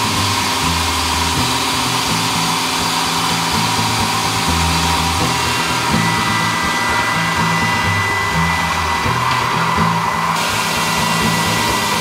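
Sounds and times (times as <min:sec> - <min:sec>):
background music with bass: 0:00.0 - 0:12.0
saw blade cutting stone: 0:00.0 - 0:12.0.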